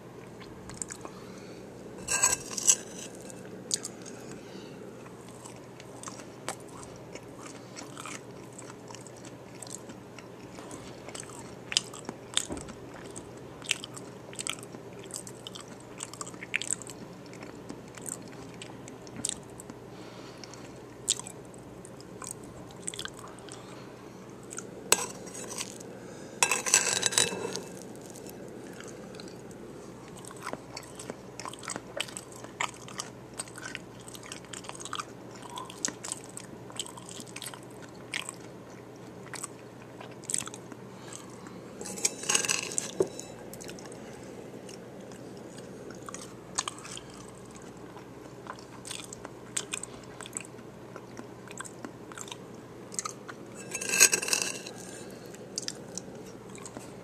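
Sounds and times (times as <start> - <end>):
person chewing crunchy food: 0.2 - 1.2, 2.0 - 4.4, 5.0 - 19.8, 20.4 - 23.8, 24.4 - 57.0.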